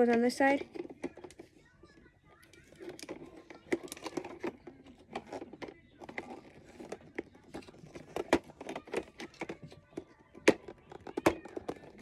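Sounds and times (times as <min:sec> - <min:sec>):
plastic toy parts knocking and clicking: 0:00.0 - 0:01.6, 0:02.4 - 0:12.0.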